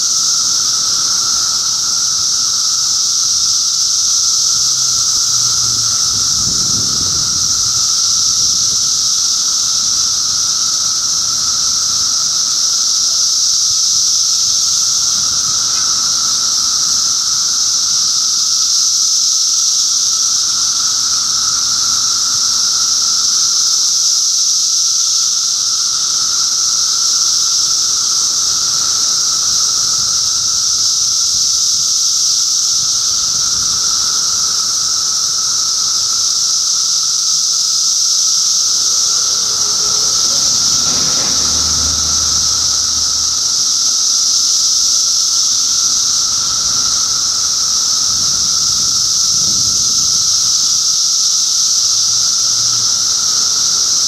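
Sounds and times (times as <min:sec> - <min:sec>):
cicadas chorus buzzing: 0:00.0 - 0:54.0.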